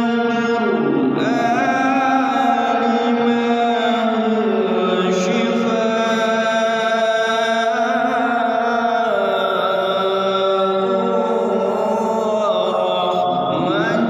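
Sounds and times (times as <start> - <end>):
person singing long held notes: 0.0 - 14.0.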